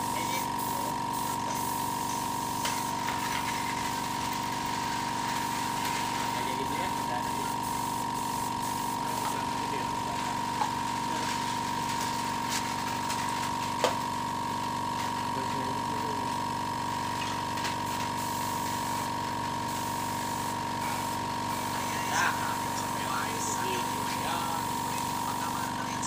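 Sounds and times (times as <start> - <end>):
air compressor droning: 0.0 - 26.0.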